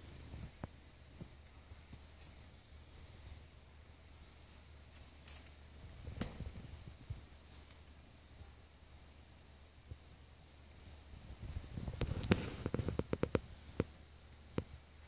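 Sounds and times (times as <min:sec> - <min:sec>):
cats rustling on dirt and stones: 0:00.0 - 0:09.3, 0:09.9 - 0:14.7.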